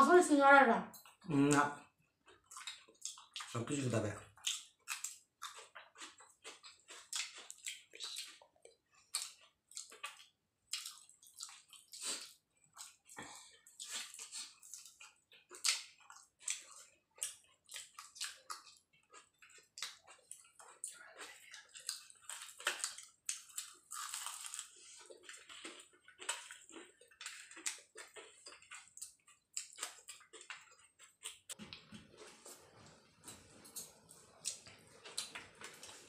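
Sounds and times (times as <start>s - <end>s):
people chewing: 0.9s - 36.0s
crunching fried pastry: 2.3s - 31.5s.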